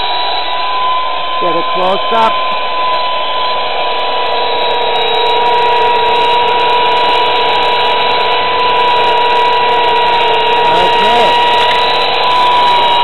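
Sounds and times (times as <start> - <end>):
electric chainsaw whining: 0.0 - 13.0.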